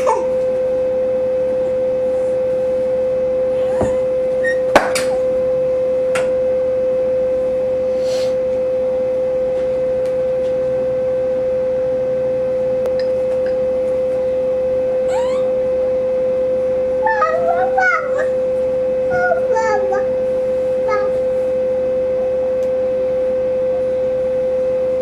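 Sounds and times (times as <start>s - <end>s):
steady mid-pitched hum: 0.0s - 25.0s.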